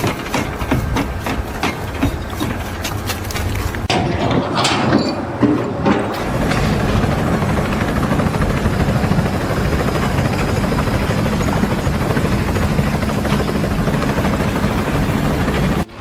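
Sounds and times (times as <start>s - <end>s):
loud fluttering mechanical rumble: 0.0s - 15.9s.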